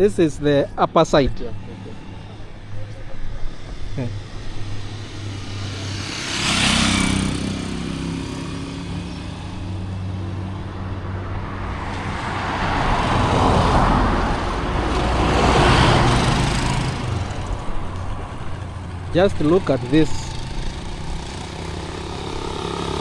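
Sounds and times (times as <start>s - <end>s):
engine hum: 0.0s - 23.0s
traffic passing on road: 0.0s - 23.0s.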